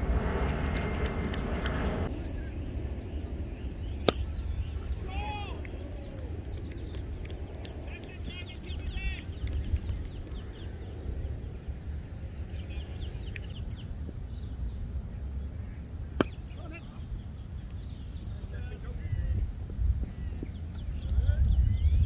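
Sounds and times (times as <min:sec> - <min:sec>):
wind rumble on microphone: 0:00.0 - 0:22.0
birds chirping and calling: 0:02.1 - 0:19.2, 0:20.0 - 0:22.0.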